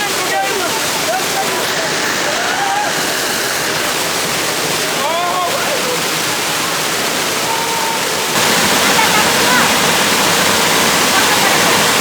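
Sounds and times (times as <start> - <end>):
faint voices: 0.0 - 10.3
waterfall rushing: 0.0 - 12.0.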